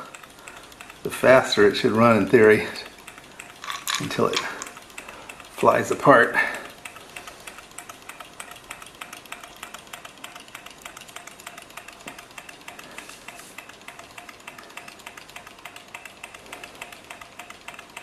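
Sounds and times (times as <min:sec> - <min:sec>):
stirling engine rapid clicking: 0:00.0 - 0:18.0.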